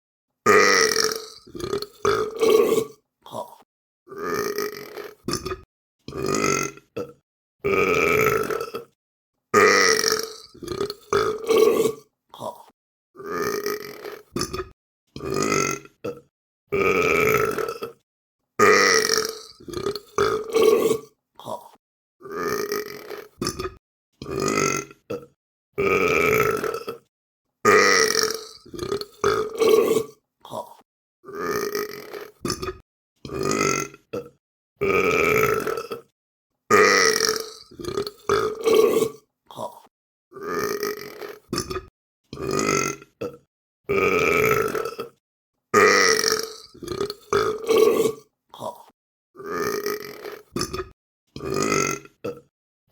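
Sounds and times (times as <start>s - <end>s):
person burping: 0.5s - 9.0s, 9.6s - 18.0s, 18.6s - 27.1s, 27.7s - 45.2s, 45.8s - 52.5s.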